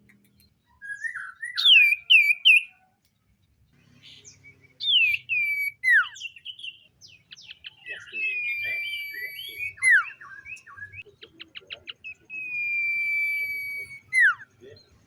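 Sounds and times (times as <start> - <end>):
bird singing whistles: 0.8 - 2.8, 4.1 - 14.6.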